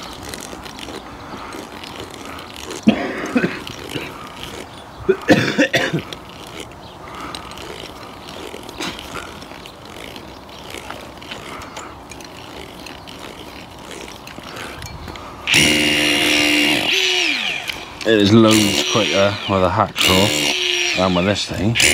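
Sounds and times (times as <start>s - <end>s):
cutting tool clicking and scraping: 0.0s - 21.2s.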